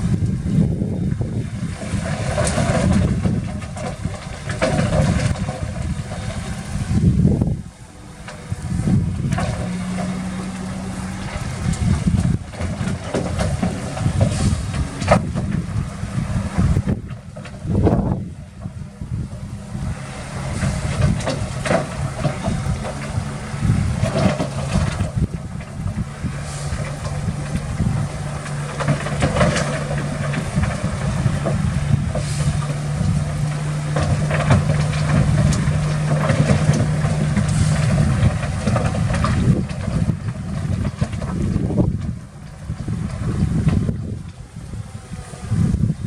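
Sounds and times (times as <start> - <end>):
diesel engine droning: 0.0 - 46.0
machinery knocks and clanks: 1.7 - 7.5, 8.2 - 44.4.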